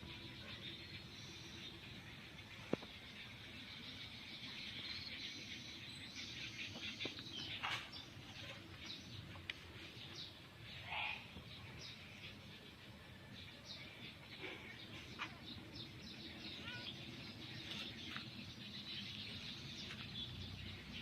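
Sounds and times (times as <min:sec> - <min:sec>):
birds chirping: 0:00.0 - 0:21.0
faint outdoor background noise: 0:00.0 - 0:21.0.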